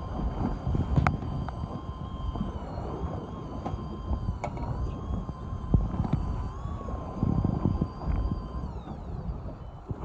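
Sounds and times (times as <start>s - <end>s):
electric fishing reel whining: 0.0s - 10.0s
waves: 0.0s - 10.0s
wind: 0.0s - 10.0s.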